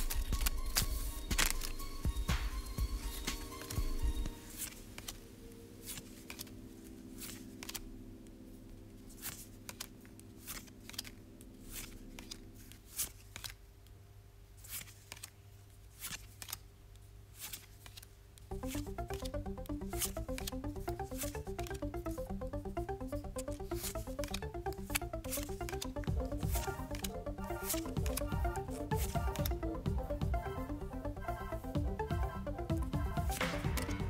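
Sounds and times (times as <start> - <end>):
playing cards flicking: 0.0 - 7.9, 9.1 - 13.7, 14.6 - 30.1, 33.3 - 34.0.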